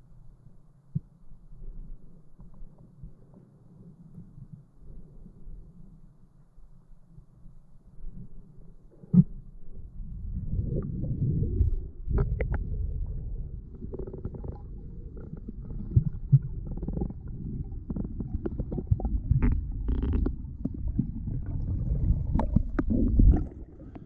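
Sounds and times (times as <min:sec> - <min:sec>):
muffled underwater rumble: 0:00.0 - 0:24.0.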